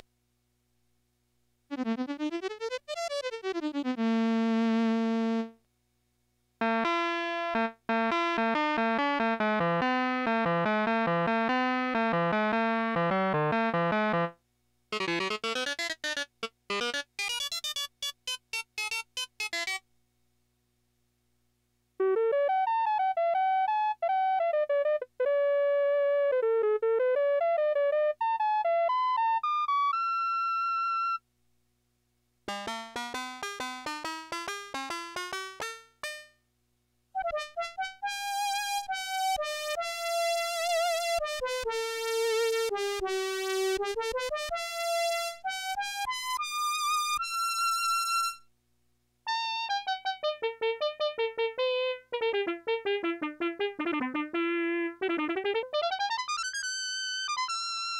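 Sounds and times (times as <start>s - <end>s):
electronic keyboard melody: 1.7s - 5.5s, 6.6s - 19.8s, 22.0s - 31.2s, 32.5s - 36.4s, 37.2s - 48.4s, 49.3s - 57.9s.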